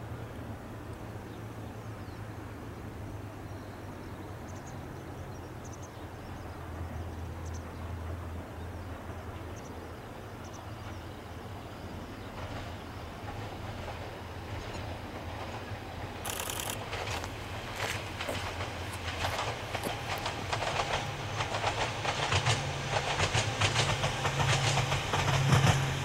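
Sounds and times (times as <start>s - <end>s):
distant electric train hum: 0.0s - 26.0s.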